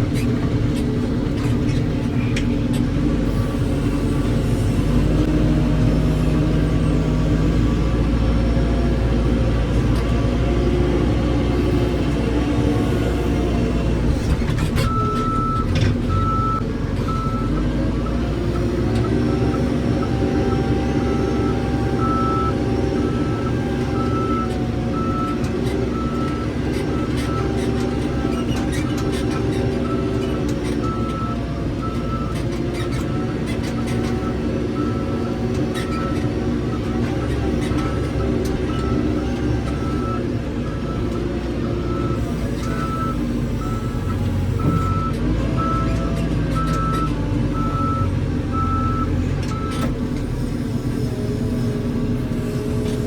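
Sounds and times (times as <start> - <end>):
heavy vehicle engine running: 0.0 - 53.0.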